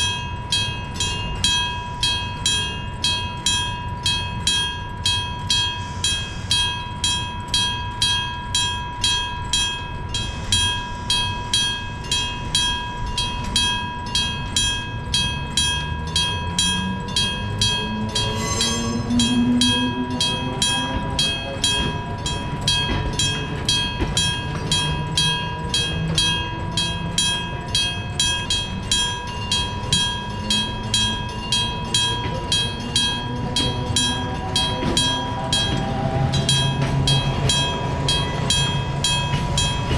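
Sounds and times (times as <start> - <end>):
level crossing bell ringing: 0.0 - 39.9
train passing: 0.0 - 39.9
train motor whine: 0.1 - 39.9.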